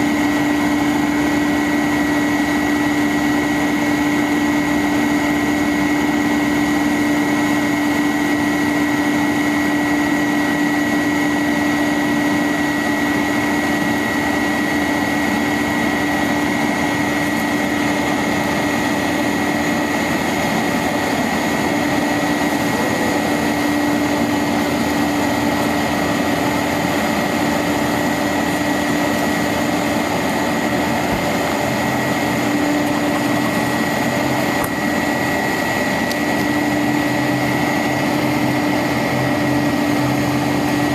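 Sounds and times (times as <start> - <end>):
high whine: 0.0 - 40.9
truck engine running: 0.0 - 40.9.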